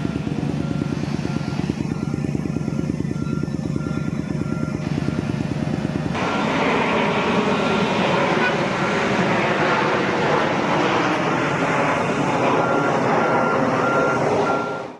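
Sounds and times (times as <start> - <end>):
reversing alarm beeping: 0.0 - 10.6, 11.3 - 14.9
traffic noise: 0.0 - 14.9.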